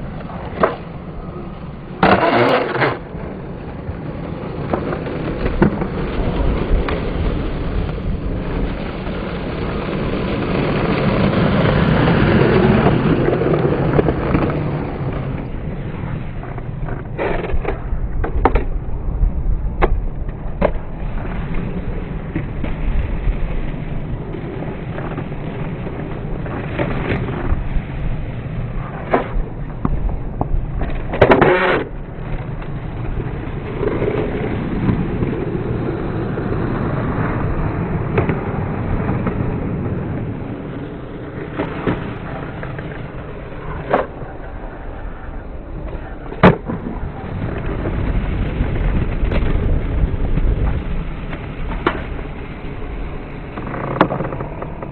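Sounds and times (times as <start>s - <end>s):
skateboard clacks: 0.0s - 54.9s
skateboard wheels rolling on concrete: 0.0s - 54.9s.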